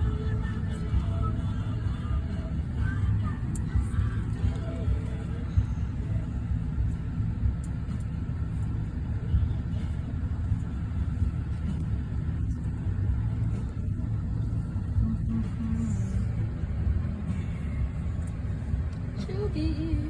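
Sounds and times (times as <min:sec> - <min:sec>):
car wash rumbling: 0:00.0 - 0:20.0.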